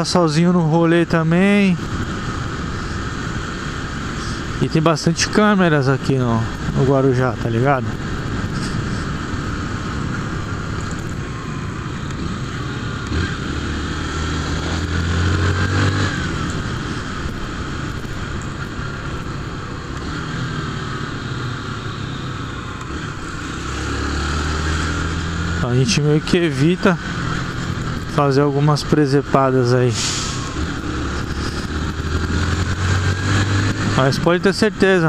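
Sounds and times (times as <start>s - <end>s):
wind rushing over microphone: 0.0s - 35.0s
motorcycle engine running: 0.9s - 35.0s.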